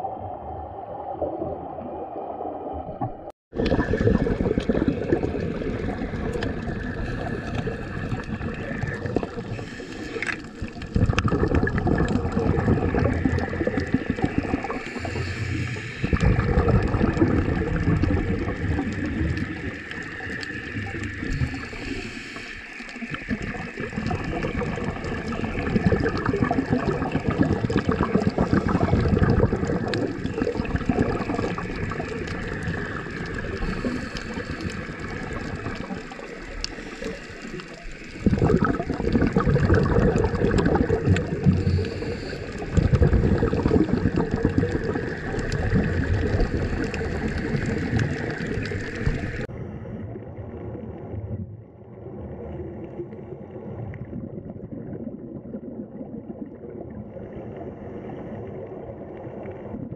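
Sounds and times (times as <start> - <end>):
underwater water rushing: 0.0 - 59.9.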